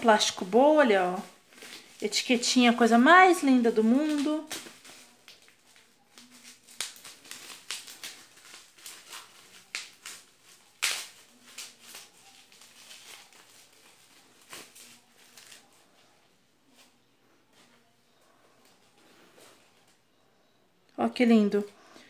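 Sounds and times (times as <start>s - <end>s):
bubble wrap rustling and crackling: 0.0s - 20.0s.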